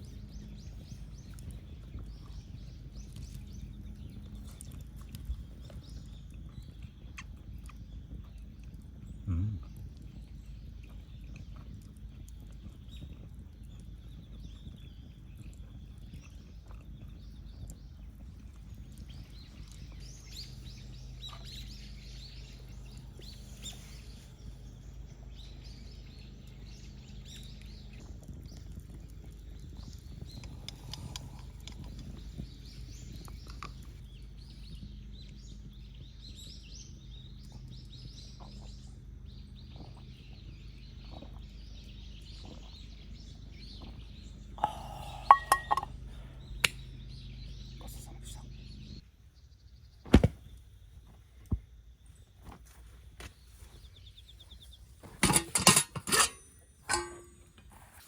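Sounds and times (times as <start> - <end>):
low steady hum: 0.0 - 58.0
small birds chirping: 0.0 - 58.0.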